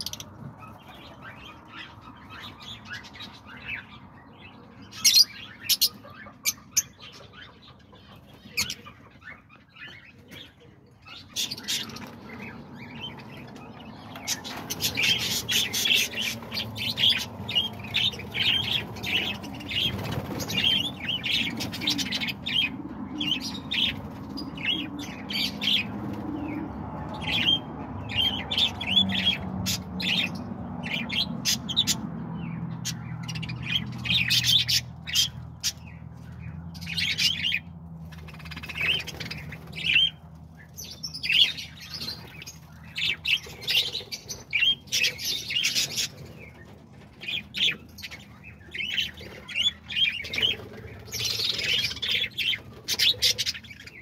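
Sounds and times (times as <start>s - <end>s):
budgerigars chirping: 0.0s - 54.0s.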